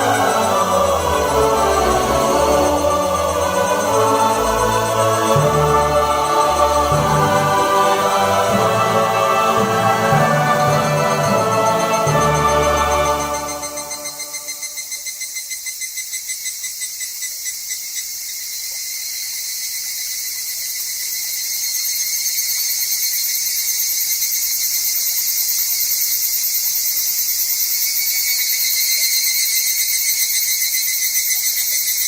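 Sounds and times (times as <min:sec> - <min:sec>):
cicadas pulsing trills: 0:00.0 - 0:32.0.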